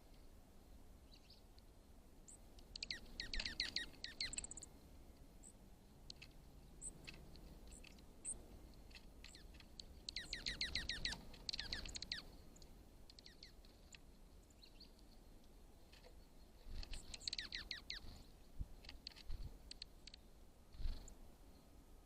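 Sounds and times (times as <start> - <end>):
songbird chirping: 0.0 - 22.0.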